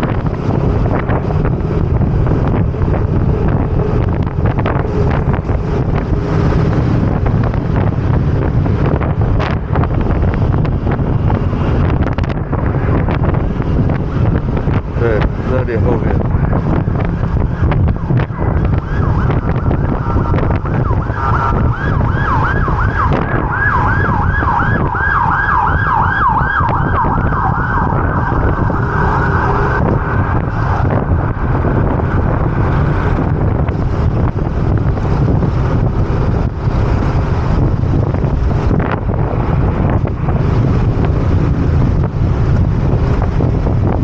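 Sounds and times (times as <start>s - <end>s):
emergency siren wailing: 0.0s - 15.5s, 16.2s - 44.0s
wind buffeting microphone: 0.0s - 44.0s.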